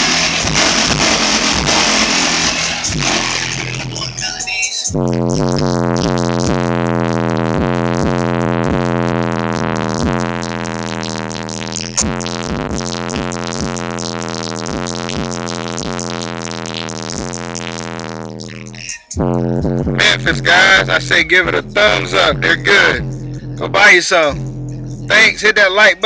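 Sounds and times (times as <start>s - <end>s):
bass-heavy rap through car stereo: 0.0s - 26.0s.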